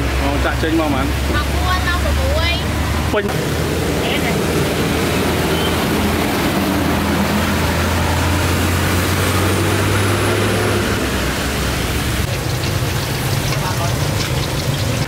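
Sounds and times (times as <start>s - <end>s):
road noise: 0.0s - 15.0s
vehicle engine humming: 0.0s - 15.0s.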